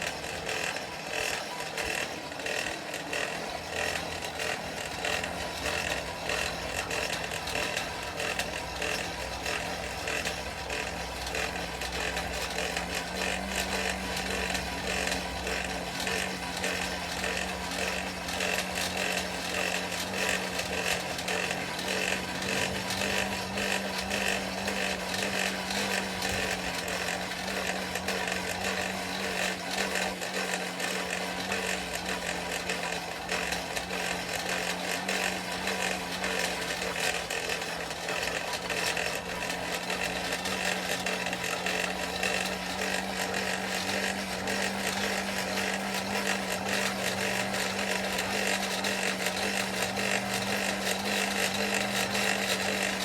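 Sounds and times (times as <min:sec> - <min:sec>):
forge blower humming: 0:00.0 - 0:53.0.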